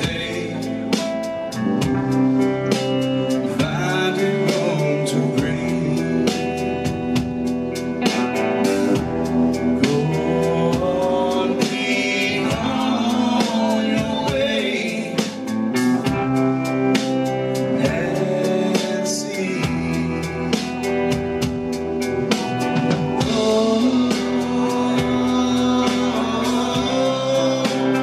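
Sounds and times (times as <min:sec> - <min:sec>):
man singing: 0:00.0 - 0:28.0
rock band playing: 0:00.0 - 0:28.0.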